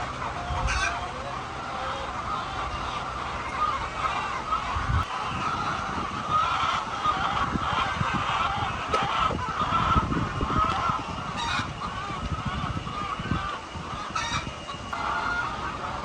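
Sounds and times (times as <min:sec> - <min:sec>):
chicken squawks: 0:00.0 - 0:16.0
chickens calling: 0:00.0 - 0:16.0.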